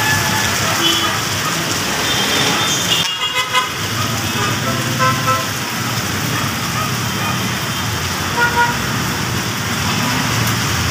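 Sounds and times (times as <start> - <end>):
road traffic: 0.0 - 10.9.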